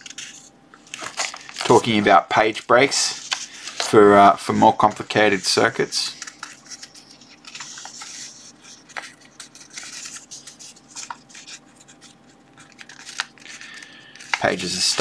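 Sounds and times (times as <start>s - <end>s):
book pages rustling: 0.0s - 15.0s.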